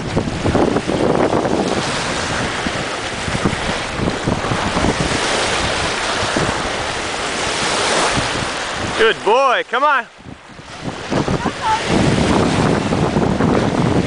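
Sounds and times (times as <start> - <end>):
choppy lake waves: 0.0 - 14.0
wind buffeting microphone: 0.0 - 14.0.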